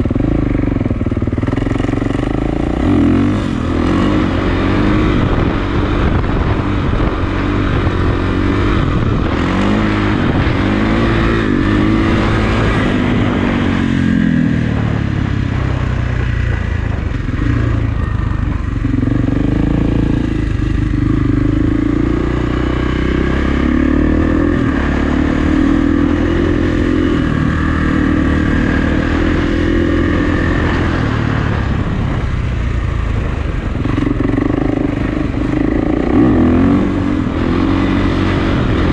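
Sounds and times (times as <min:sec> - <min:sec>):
dirt bike engine revving: 0:00.0 - 0:15.8, 0:16.9 - 0:31.9, 0:33.8 - 0:38.9.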